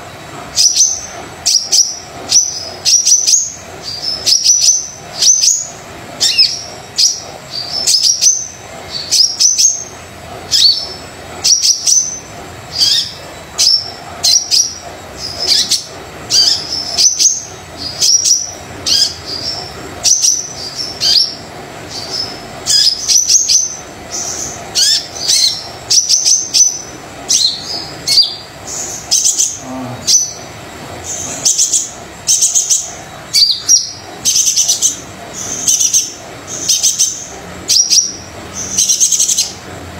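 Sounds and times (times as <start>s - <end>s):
bird singing high chirps: 0.6s - 30.5s, 31.1s - 39.6s.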